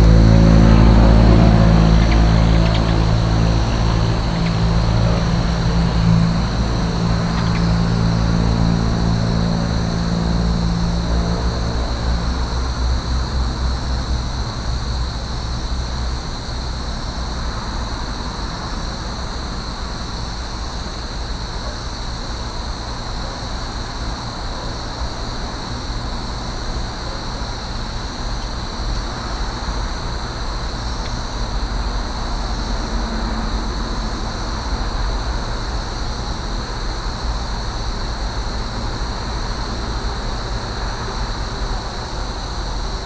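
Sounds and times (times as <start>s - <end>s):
distant traffic rumble: 0.0s - 43.0s
steady high-pitched hiss: 0.0s - 43.0s.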